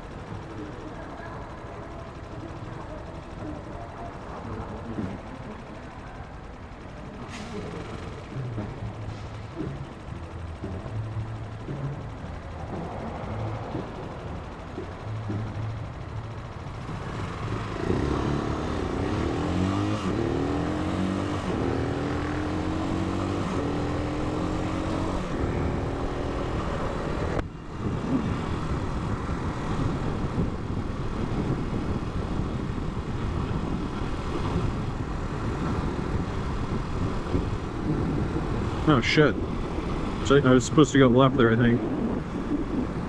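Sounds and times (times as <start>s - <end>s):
motorcycle engine accelerating: 0.0s - 43.0s
wind and road noise: 0.0s - 43.0s.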